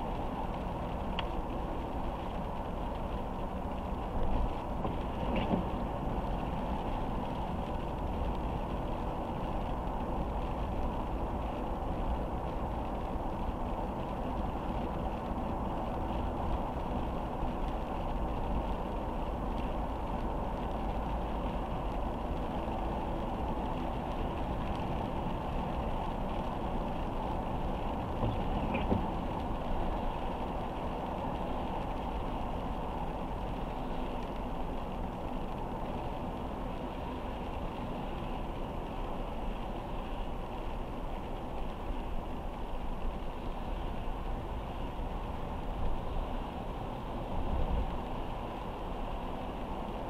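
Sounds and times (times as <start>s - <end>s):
tyres hissing on wet road: 0.0s - 50.0s.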